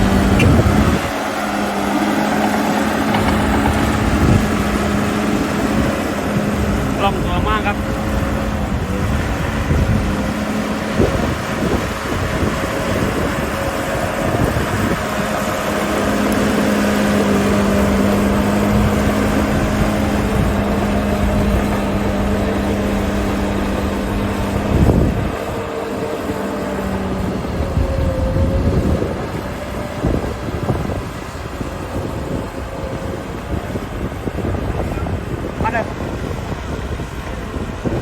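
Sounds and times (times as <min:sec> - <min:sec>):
bulldozer diesel engine: 0:00.0 - 0:38.0
heavy low rumble of tracks: 0:00.0 - 0:38.0.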